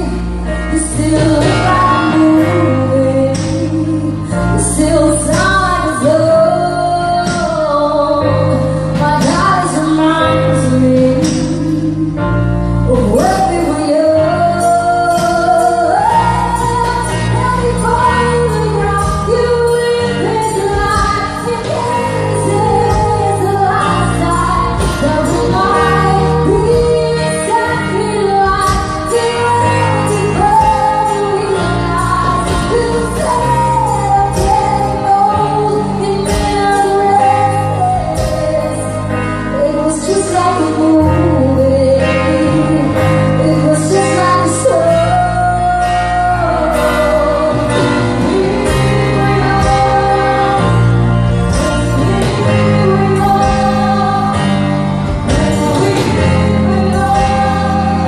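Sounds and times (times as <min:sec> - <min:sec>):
bass guitar: 0:00.0 - 0:58.0
drums: 0:00.0 - 0:58.0
electric guitar: 0:00.0 - 0:58.0
woman singing: 0:00.0 - 0:58.0.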